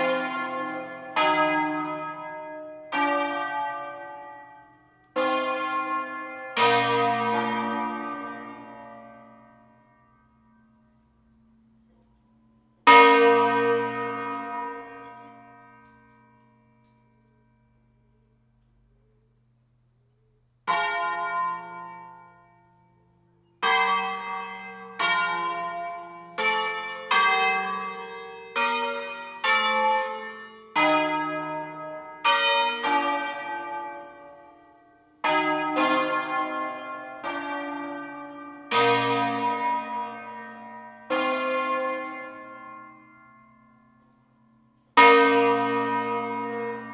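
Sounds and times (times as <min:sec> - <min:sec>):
church bells ringing: 0:00.0 - 0:19.4, 0:20.6 - 0:46.9.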